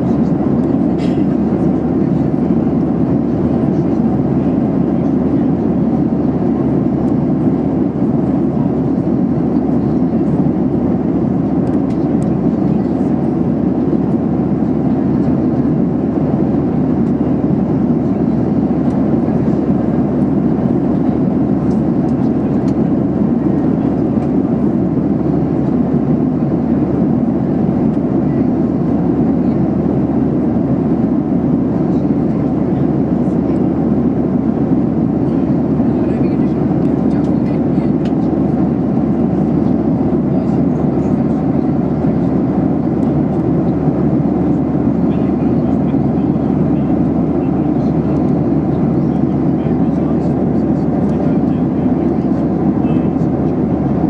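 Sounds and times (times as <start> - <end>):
airplane cabin engine drone: 0.0 - 54.0.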